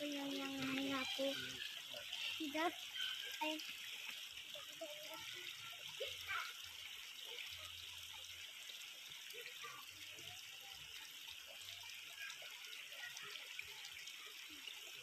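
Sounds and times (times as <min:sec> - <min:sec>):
stream trickling over stones: 0:00.0 - 0:15.0.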